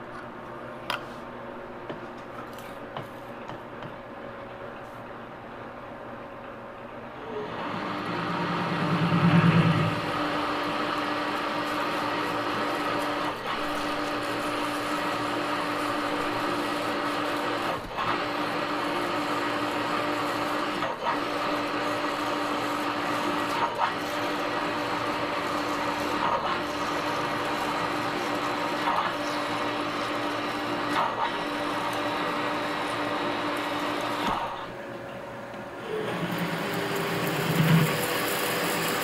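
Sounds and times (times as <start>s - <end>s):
lathe machining hum: 4.0s - 39.0s.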